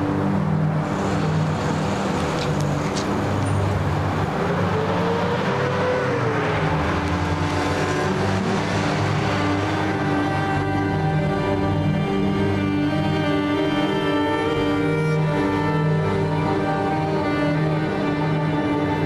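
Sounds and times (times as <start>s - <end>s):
road vehicle droning: 0.0s - 19.0s.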